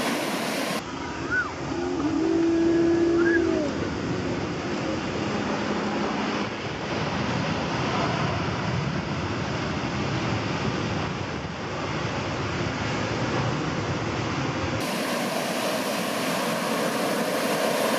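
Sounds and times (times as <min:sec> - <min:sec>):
waves breaking: 0:00.0 - 0:17.9.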